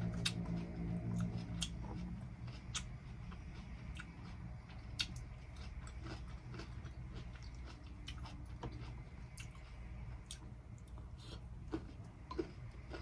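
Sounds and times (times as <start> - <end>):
crunchy chewing: 0.0 - 13.0
low hum: 0.0 - 13.0.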